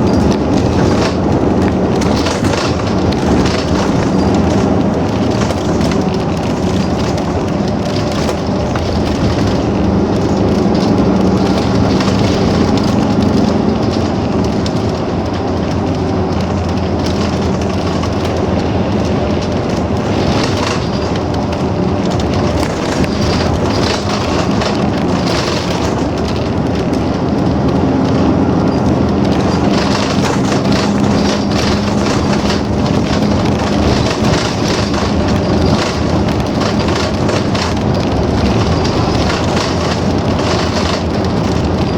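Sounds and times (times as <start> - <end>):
bus engine hum: 0.0 - 41.9
road and tyre noise: 0.0 - 41.9.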